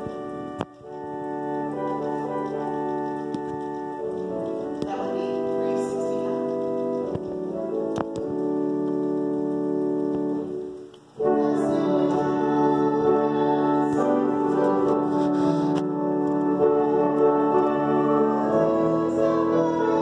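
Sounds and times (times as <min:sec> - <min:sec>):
organ-like hymn chords: 0:00.0 - 0:20.0.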